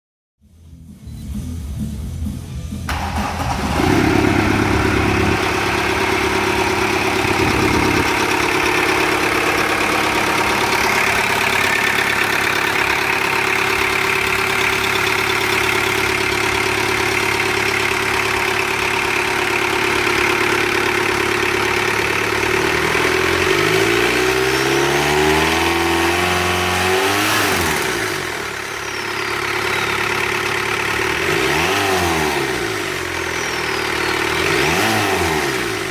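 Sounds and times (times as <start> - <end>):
diesel engine idling and revving: 0.8 - 35.9.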